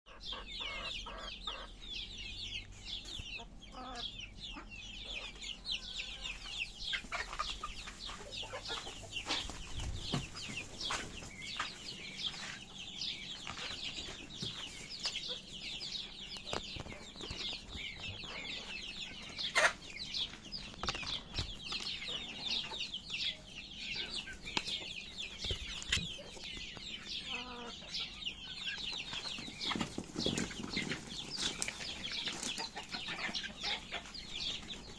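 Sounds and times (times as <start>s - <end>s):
chickens clucking and chirping: 0.1s - 34.9s.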